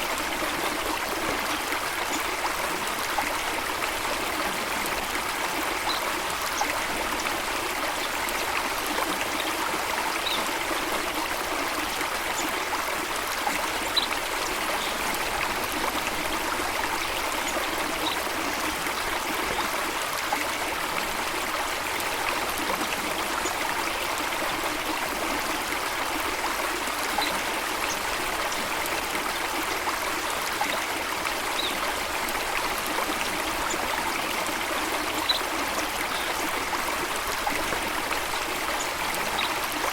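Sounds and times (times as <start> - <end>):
water rushing and trickling: 0.0 - 39.9.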